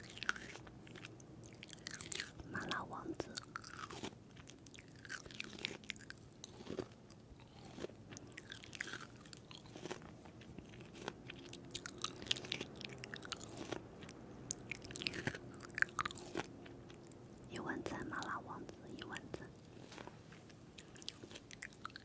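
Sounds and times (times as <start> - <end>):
crunchy food being chewed: 0.0 - 22.0
faint steady hum: 0.0 - 22.0.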